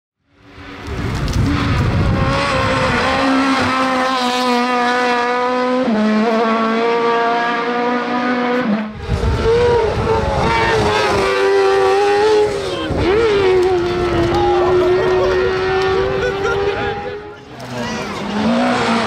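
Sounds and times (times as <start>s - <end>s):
race car engine at high revs: 0.3s - 19.0s.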